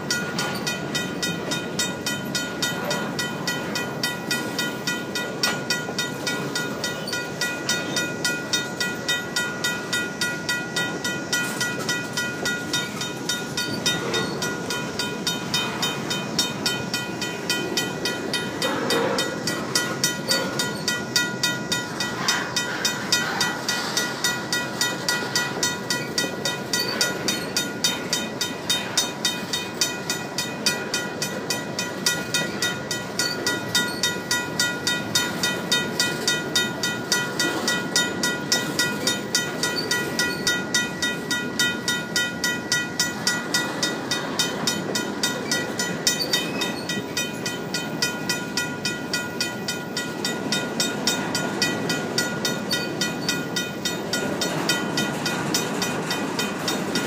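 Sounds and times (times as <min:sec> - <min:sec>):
crossing bell ringing: 0:00.0 - 0:57.0
train wheels clacking on rails: 0:00.0 - 0:57.0.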